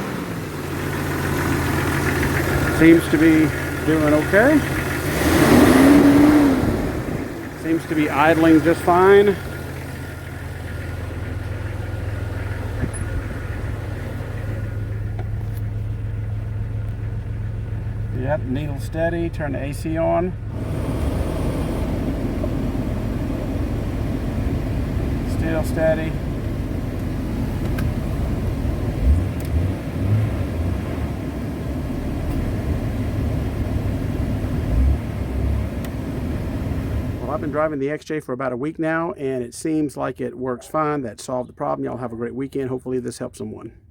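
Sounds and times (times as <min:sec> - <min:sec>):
low bumps: 0:00.0 - 0:37.7
car engine idling: 0:00.0 - 0:37.8.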